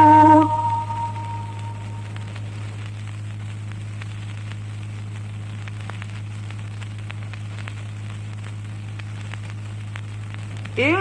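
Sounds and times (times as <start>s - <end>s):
even hiss: 0.0s - 11.0s
low electrical hum: 0.0s - 11.0s
small clicks and crackles: 0.0s - 11.0s.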